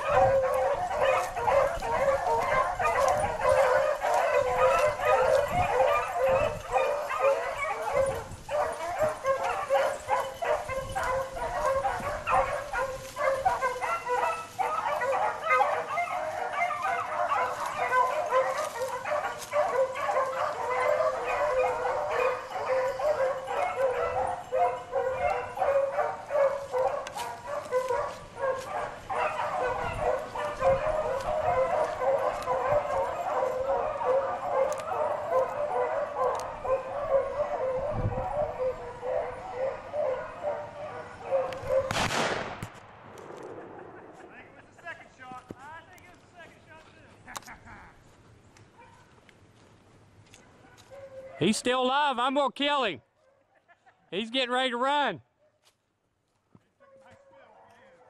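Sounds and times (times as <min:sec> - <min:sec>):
pack of dogs baying: 0:00.0 - 0:42.0, 0:50.2 - 0:53.6, 0:54.4 - 0:55.1, 0:56.8 - 0:58.0.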